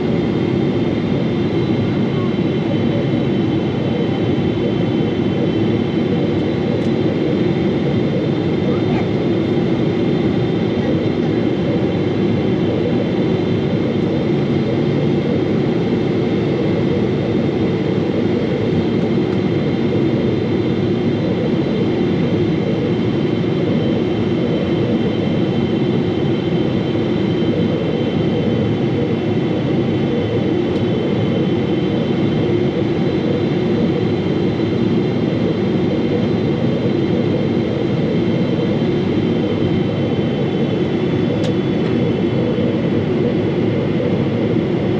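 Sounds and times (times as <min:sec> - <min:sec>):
jet engine and airflow noise: 0:00.0 - 0:44.9.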